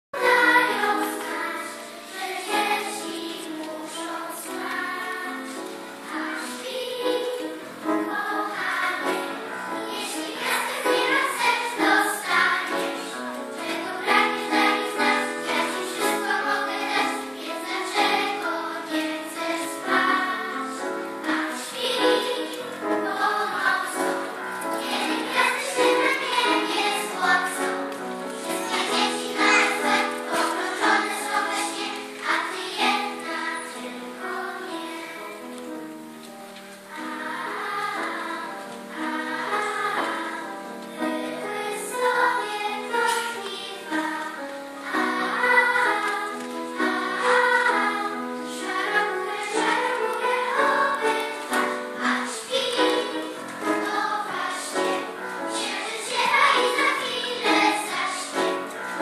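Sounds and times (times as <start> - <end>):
children's choir singing lullaby: 0.1 - 59.0
piano accompaniment: 0.1 - 59.0.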